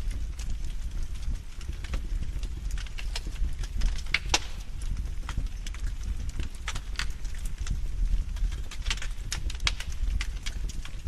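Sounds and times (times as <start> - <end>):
fire crackling pops: 0.0 - 11.0
wood fire rumbling: 0.0 - 11.0.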